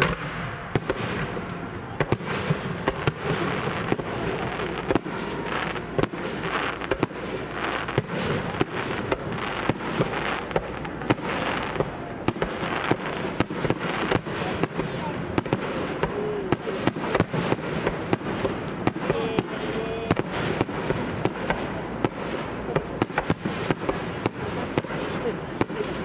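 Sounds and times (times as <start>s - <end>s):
continuous firework crackle: 0.0s - 26.0s
firework shells bursting: 0.0s - 26.0s.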